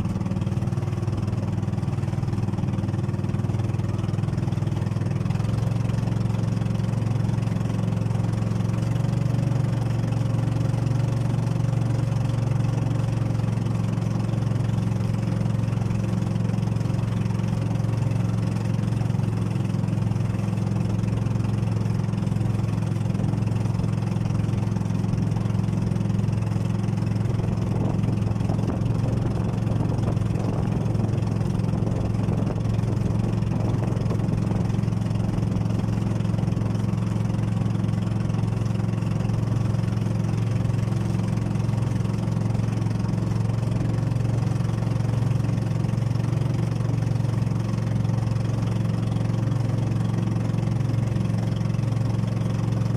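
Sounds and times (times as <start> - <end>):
boat engine running: 0.0 - 52.9
water rushing and splashing: 0.0 - 52.9.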